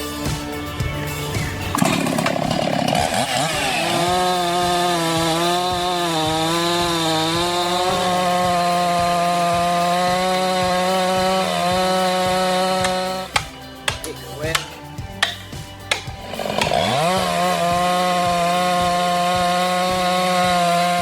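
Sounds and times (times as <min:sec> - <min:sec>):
chainsaw cutting wood: 0:01.3 - 0:21.0.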